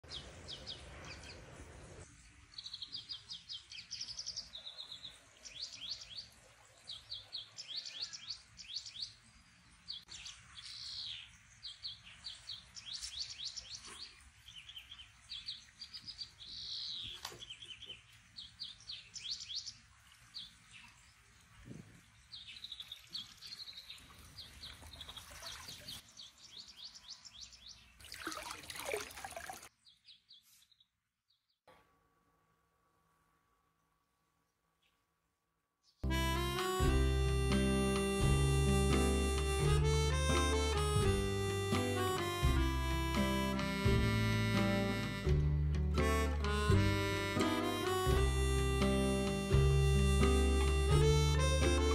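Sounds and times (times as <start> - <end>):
songbirds chirping: 0.0 - 31.6, 35.8 - 51.9.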